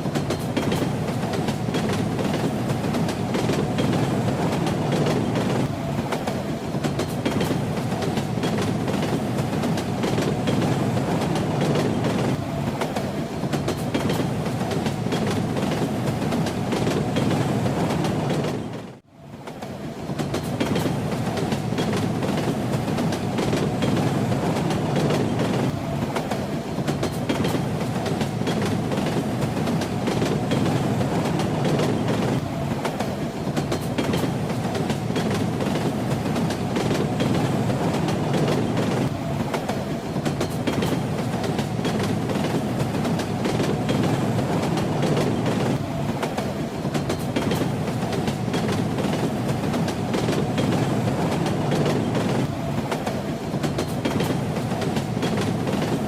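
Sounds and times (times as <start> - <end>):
train carriages rumbling: 0.0 - 56.0.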